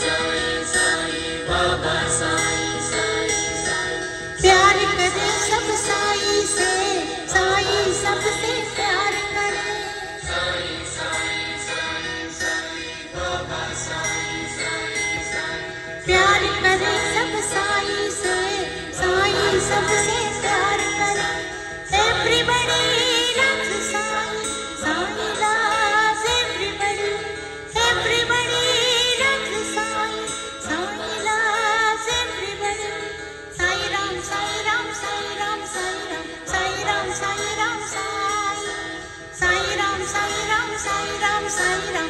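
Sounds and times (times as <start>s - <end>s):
loud song with singing: 0.0s - 42.0s.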